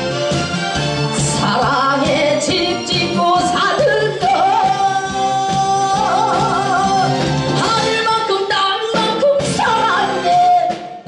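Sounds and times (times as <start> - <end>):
amplified backing music: 0.0 - 11.0
woman singing into a microphone: 1.2 - 11.0.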